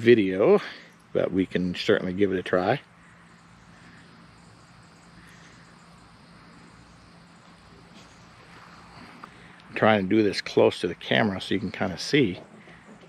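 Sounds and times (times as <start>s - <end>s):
low hum: 0.0s - 13.0s
insects chirring: 0.4s - 13.0s.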